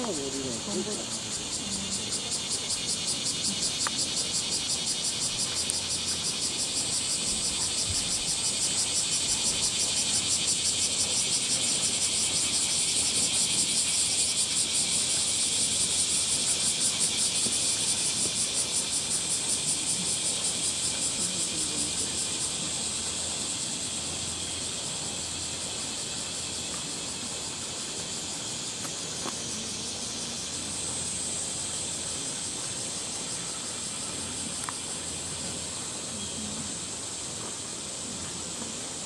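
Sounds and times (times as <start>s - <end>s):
cicadas buzzing in chorus: 0.0s - 39.0s.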